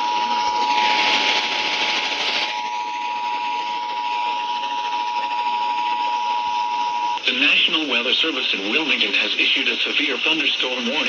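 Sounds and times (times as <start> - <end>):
radio hiss: 0.0 - 11.0
steady alarm tone: 0.0 - 11.0.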